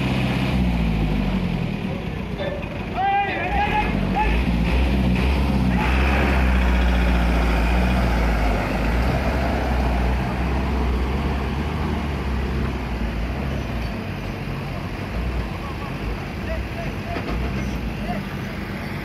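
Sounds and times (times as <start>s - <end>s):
diesel truck pulling away: 0.0s - 19.0s.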